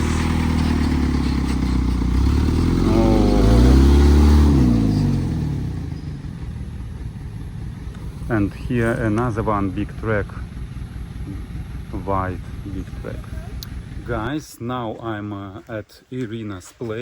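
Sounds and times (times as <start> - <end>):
heavy truck passing by: 0.0 - 14.3
steady engine: 0.0 - 14.5.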